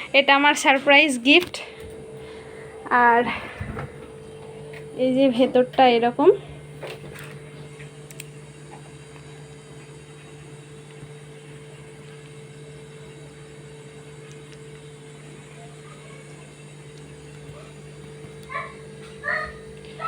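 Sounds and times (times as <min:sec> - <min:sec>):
electrical appliance hum: 0:00.0 - 0:20.0.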